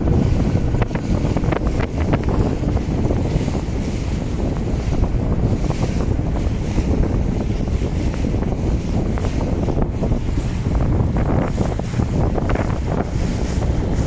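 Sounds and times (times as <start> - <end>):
choppy water splashing: 0.0 - 14.0
wind buffeting microphone: 0.0 - 14.0.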